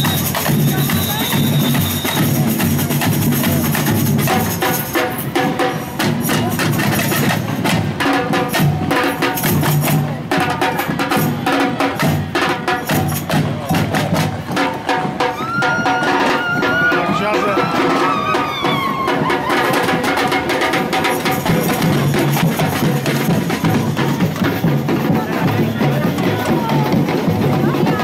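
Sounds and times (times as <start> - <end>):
marching drums playing: 0.0 - 28.0.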